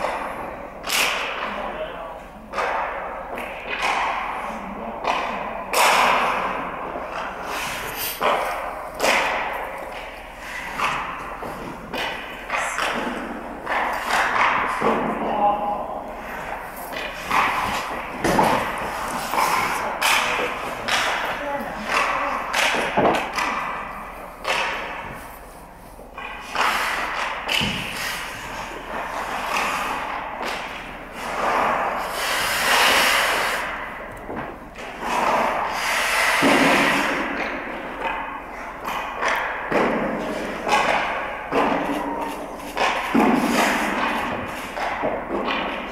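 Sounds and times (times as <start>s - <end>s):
hockey sticks striking pucks: 0.0s - 45.9s
skate blades scraping ice: 2.5s - 45.9s.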